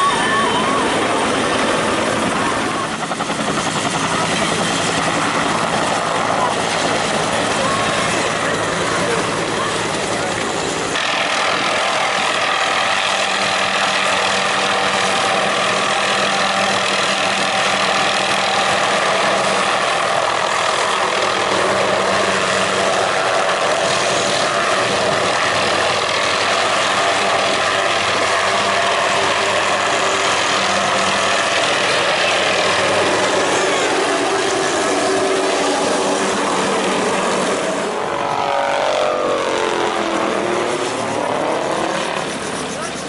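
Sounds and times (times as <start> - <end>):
helicopter engine and rotor: 0.0 - 43.0.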